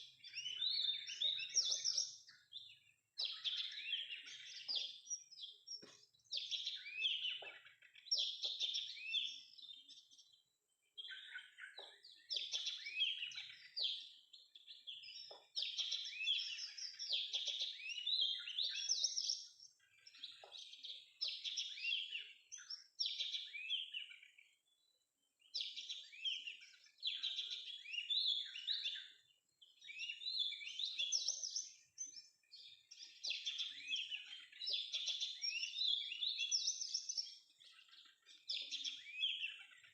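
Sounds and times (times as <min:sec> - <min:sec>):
bird song whistles and chirps: 0:00.0 - 0:39.9.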